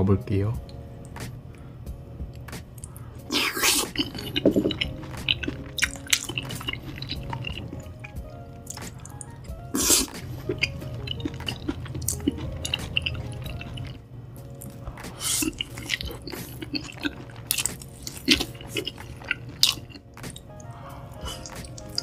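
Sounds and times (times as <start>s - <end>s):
background music: 0.0s - 22.0s
wet chewing and lip-smacking: 2.3s - 14.0s, 14.6s - 22.0s.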